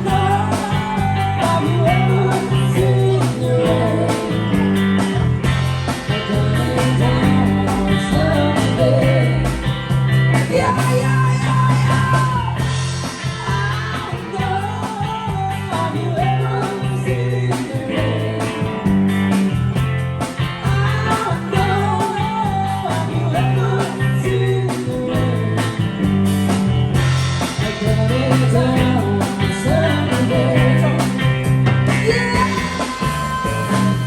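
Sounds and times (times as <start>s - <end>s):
rock music with vocals: 0.0s - 34.0s.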